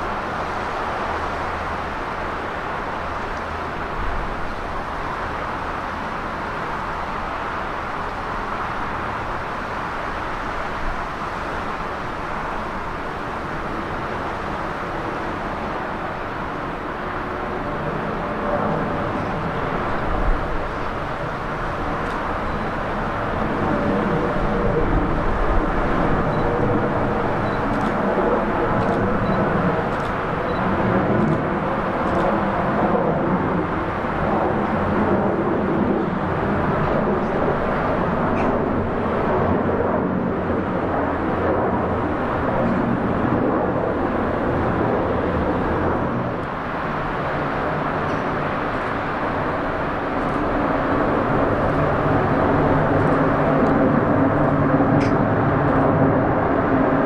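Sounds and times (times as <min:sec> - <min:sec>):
distant jet engines: 0:00.0 - 0:57.0
motorway traffic: 0:00.0 - 0:57.0.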